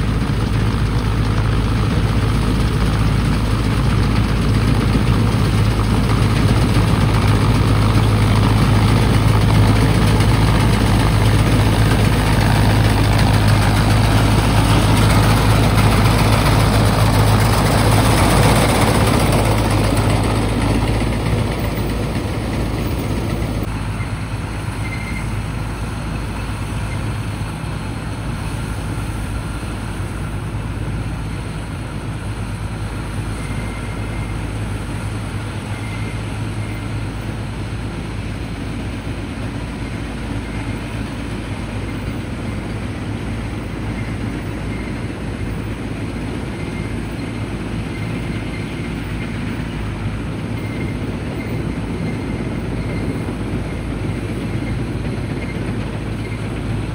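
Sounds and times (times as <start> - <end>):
diesel engine drone: 0.0 - 56.9.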